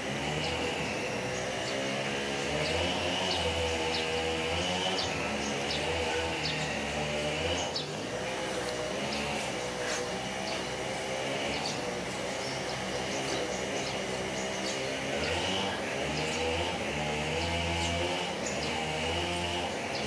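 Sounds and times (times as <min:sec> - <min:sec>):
engine drone: 0:00.0 - 0:20.0
high steady buzz: 0:00.0 - 0:20.0.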